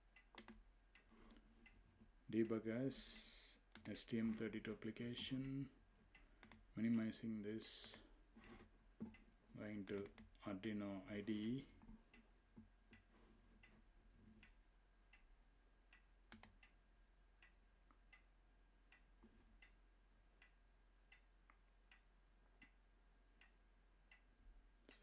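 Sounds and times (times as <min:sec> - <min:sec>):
wall clock ticking: 0:00.0 - 0:24.8
low electrical hum: 0:00.0 - 0:25.0.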